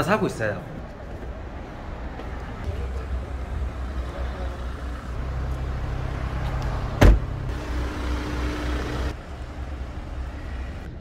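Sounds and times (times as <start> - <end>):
car engine rumbling: 1.5 - 11.0.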